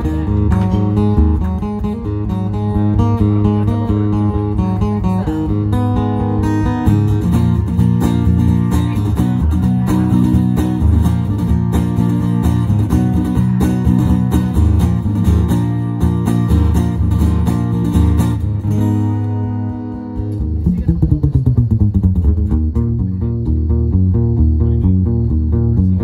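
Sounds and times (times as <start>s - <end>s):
amplified acoustic guitar chords: 0.0s - 26.0s.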